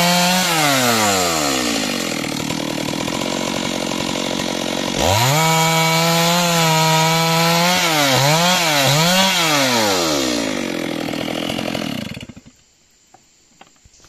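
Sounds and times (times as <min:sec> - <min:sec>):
chainsaw cutting log: 0:00.0 - 0:12.6.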